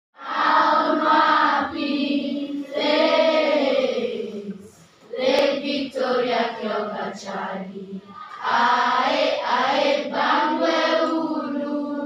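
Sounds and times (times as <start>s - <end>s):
voices singing a chant: 0.2s - 12.0s.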